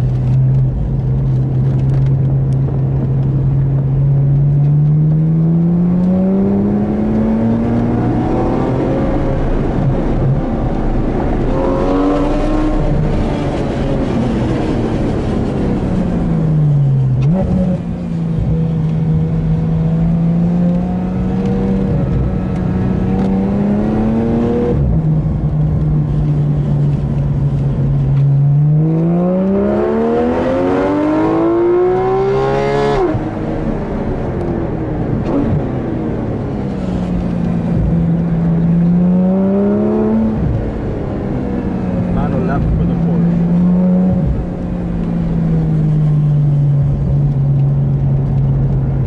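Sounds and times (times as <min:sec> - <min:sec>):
car engine revving inside cabin: 0:00.0 - 0:49.0.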